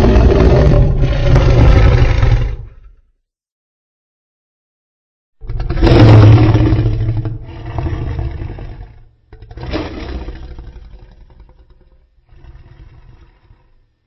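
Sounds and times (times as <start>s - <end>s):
deep monster roar: 0.0s - 3.0s, 5.4s - 13.9s.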